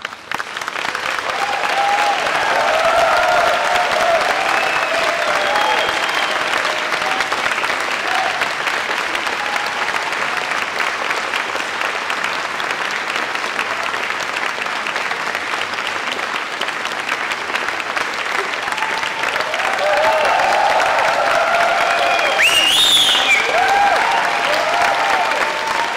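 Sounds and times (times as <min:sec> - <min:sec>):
audience applauding: 0:00.0 - 0:25.9.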